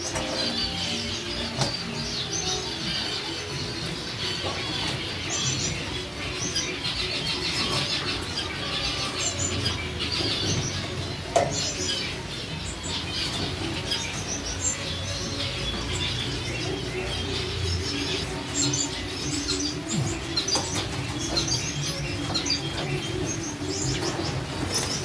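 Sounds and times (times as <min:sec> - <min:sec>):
canaries chirping and twittering: 0:00.0 - 0:25.0.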